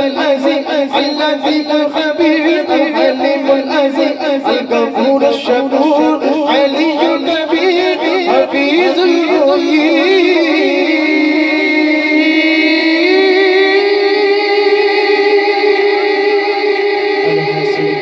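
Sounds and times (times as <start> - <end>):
person singing wordlessly: 0.0 - 18.0.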